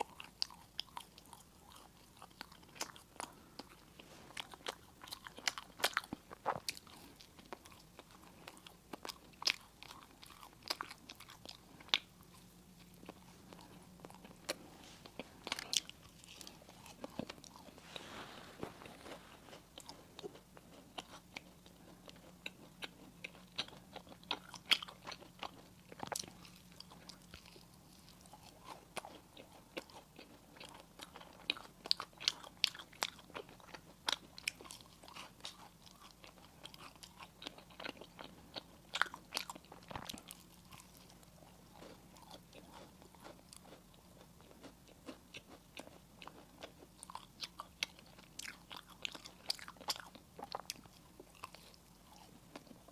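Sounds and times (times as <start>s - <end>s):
crunchy food being chewed: 0.0s - 52.9s.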